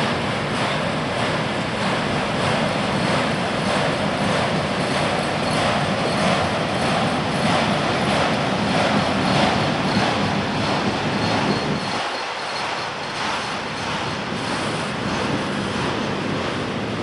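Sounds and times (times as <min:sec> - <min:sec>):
freight cars rumbling on rails: 0:00.0 - 0:17.0.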